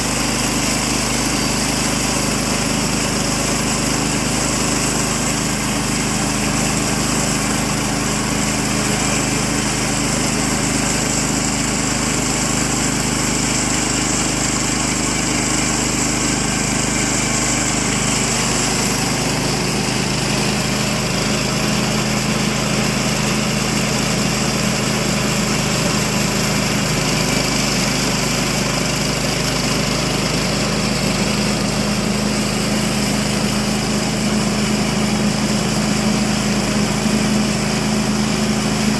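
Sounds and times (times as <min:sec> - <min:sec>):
band blade cutting log: 0:00.0 - 0:37.5
sawmill engine running: 0:00.0 - 0:38.9.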